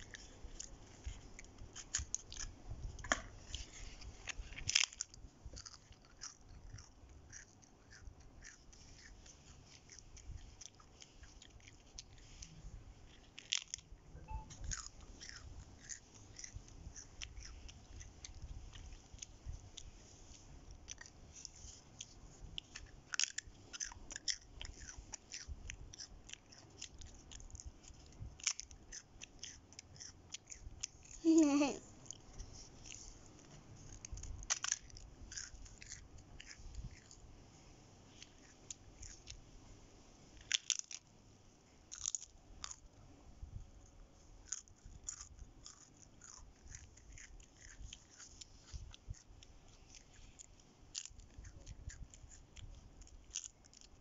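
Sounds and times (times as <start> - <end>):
child crunching crackers: 0.0 - 37.2, 38.1 - 39.4, 40.4 - 41.1, 41.9 - 42.9, 44.4 - 54.0.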